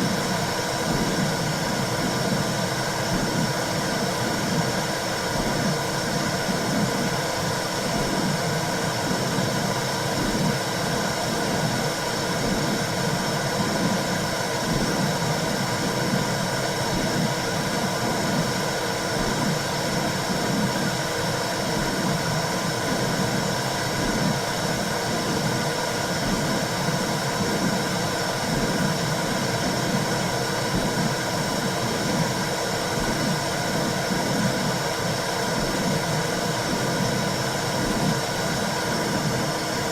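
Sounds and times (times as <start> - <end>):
rushing white noise: 0.0 - 39.9.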